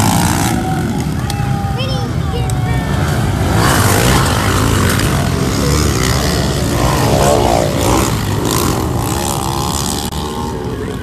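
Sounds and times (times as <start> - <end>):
pit bike engines revving: 0.0 - 11.0.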